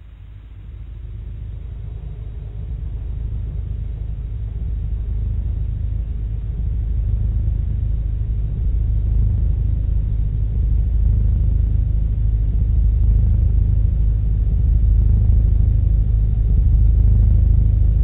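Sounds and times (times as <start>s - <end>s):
dark ambient music drone: 0.0s - 18.0s.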